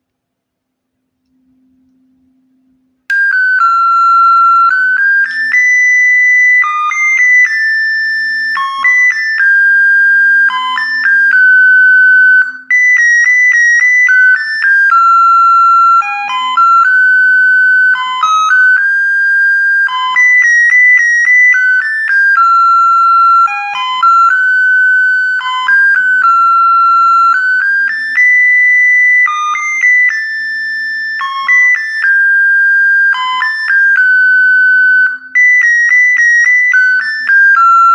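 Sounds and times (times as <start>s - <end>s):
electronic doorbell melody: 3.1s - 37.9s.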